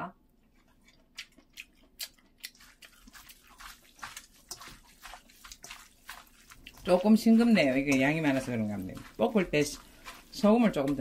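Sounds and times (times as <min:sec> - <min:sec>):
hands squishing wet greens: 0:00.4 - 0:11.0.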